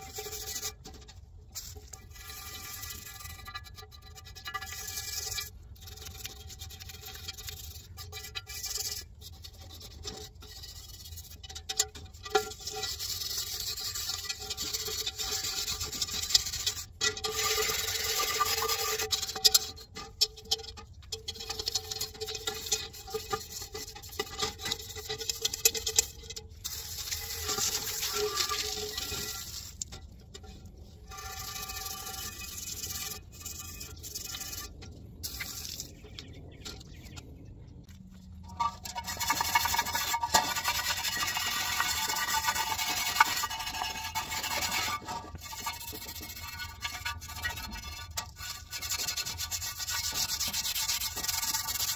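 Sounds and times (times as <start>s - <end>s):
scrubbing cast-iron pot: 0.0s - 37.5s, 38.3s - 51.9s.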